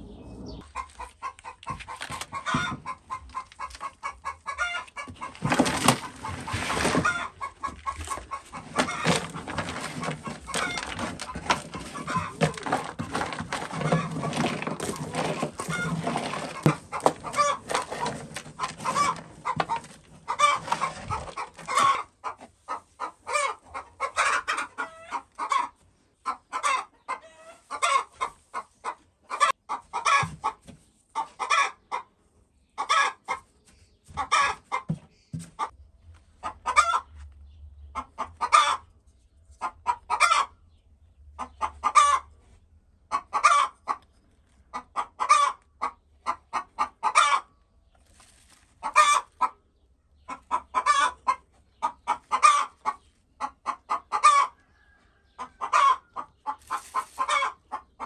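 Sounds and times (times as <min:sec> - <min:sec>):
hen clucking: 0:00.0 - 0:35.8, 0:36.4 - 0:40.8, 0:41.4 - 0:58.0.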